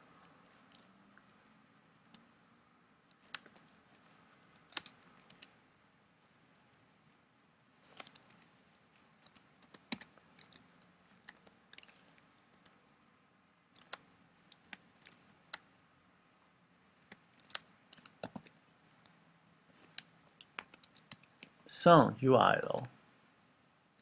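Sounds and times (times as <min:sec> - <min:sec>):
faint keyboard typing: 0:00.0 - 0:21.7.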